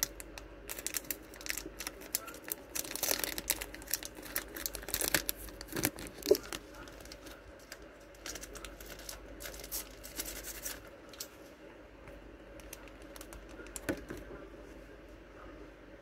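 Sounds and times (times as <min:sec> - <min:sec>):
plastic packaging crinkling: 0:00.0 - 0:11.3, 0:12.6 - 0:14.3.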